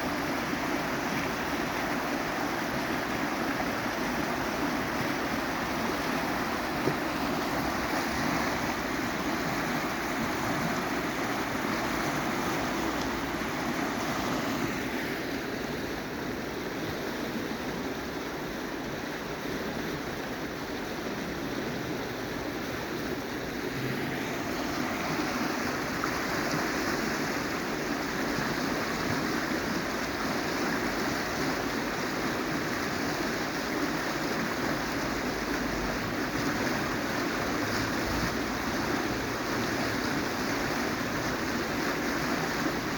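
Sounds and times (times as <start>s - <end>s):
water rushing: 0.0s - 42.9s.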